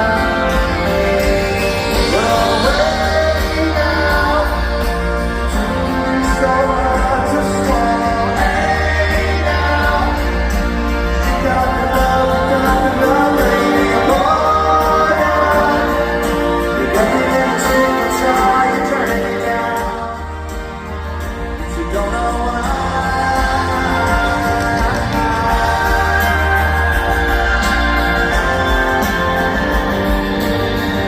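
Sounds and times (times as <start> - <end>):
live rock band playing: 0.0 - 31.0
person singing: 0.0 - 31.0.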